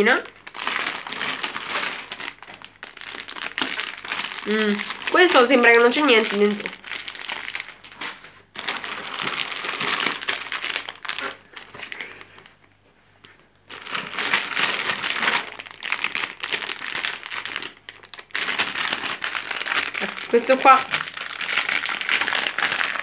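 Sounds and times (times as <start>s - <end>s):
plastic foil packet crinkling: 0.0s - 23.0s.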